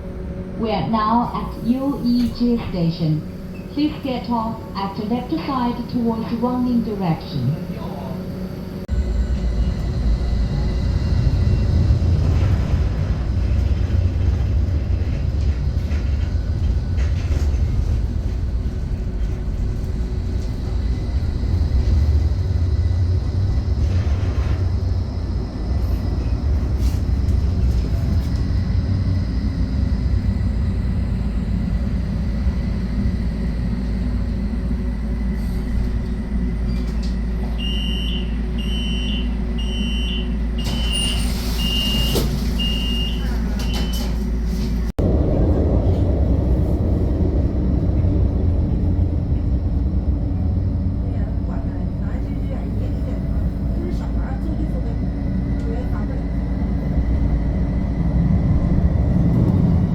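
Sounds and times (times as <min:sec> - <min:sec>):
tram cabin rumble: 0:00.0 - 0:59.9.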